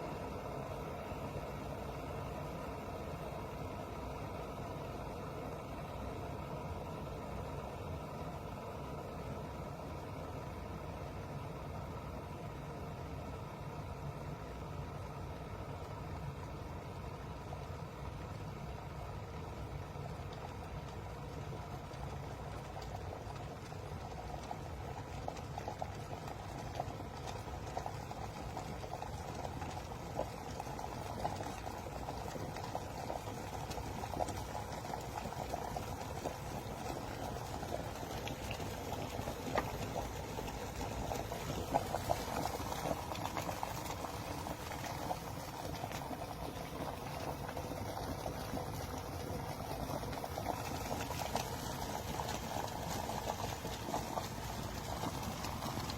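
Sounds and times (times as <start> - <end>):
kettle water bubbling: 0.0 - 55.9.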